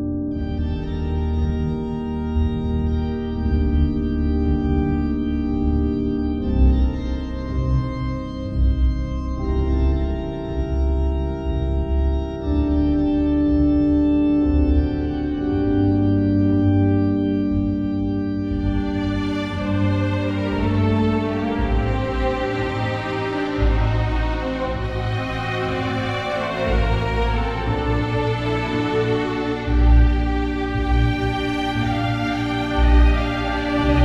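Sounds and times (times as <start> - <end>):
low bass: 0.0 - 34.0
sustained organ chords: 0.0 - 34.0.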